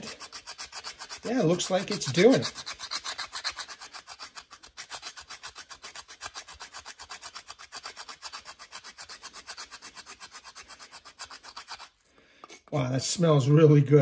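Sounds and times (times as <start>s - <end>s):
knife scraping wood: 0.0s - 12.7s.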